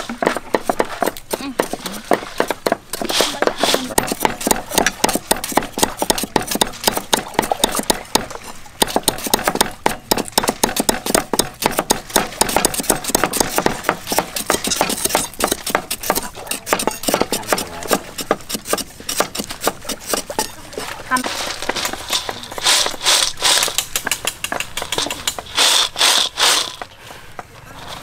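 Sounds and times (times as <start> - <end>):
cleavers chopping on wooden blocks: 0.0 - 25.5.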